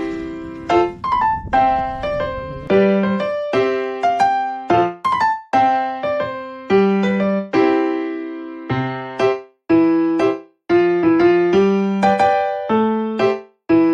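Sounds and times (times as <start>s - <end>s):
piano melody: 0.0s - 13.9s.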